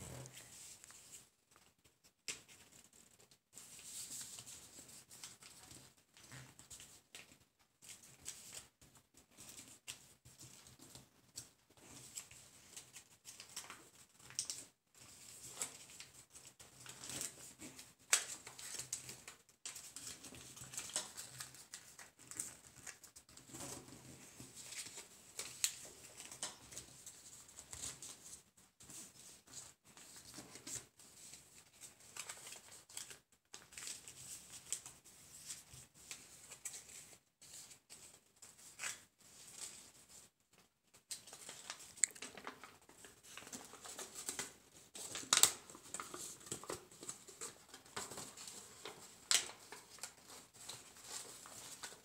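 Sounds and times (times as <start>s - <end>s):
paper rustling and crinkling: 0.0s - 52.0s.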